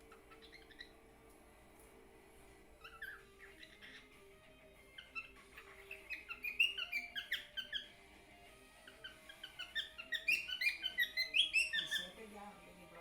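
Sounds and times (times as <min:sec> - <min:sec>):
cockatiel chirping: 0:00.0 - 0:01.0, 0:02.8 - 0:12.3.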